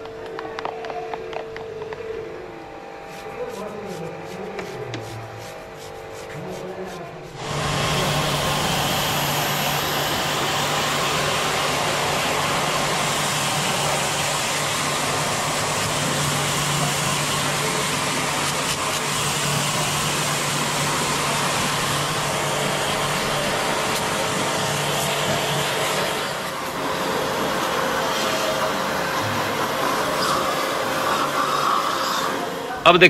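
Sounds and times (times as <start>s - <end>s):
pressure washer motor hum: 2.6s - 32.9s
water jet hissing on metal: 3.1s - 32.7s.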